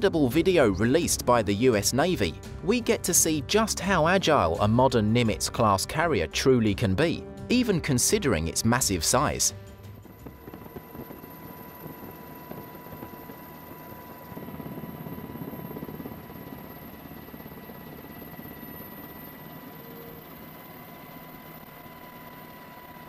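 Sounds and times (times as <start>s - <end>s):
helicopter rotor and engine: 0.0s - 5.8s, 8.4s - 23.0s.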